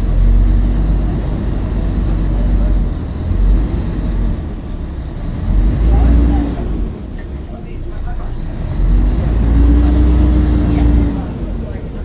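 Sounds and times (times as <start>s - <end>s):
bus diesel engine rumble: 0.0s - 12.0s
road noise: 0.0s - 12.0s.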